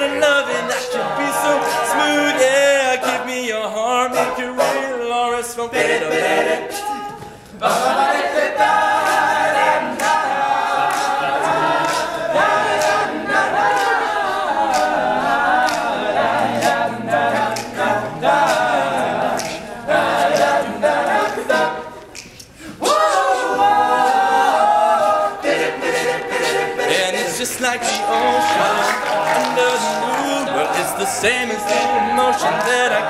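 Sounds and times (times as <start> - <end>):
male a cappella group singing: 0.0 - 33.0.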